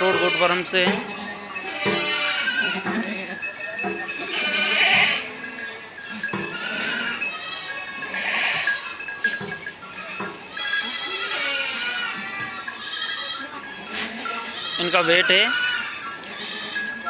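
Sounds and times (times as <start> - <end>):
goats bleating: 0.0 - 17.0.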